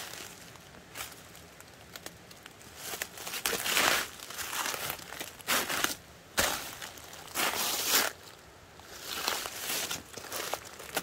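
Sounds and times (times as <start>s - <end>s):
footsteps in dry leaves: 0.0s - 11.0s.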